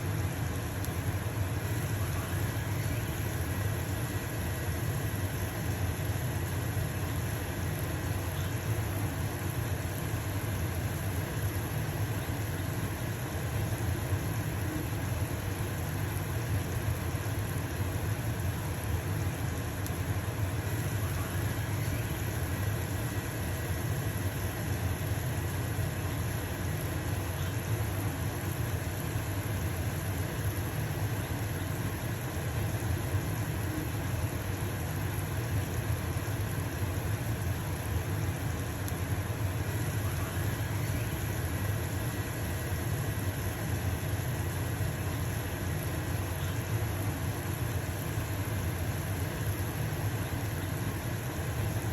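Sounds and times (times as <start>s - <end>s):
exhaust fan humming: 0.0s - 51.9s
pancake sizzling in frying pan: 0.0s - 51.9s.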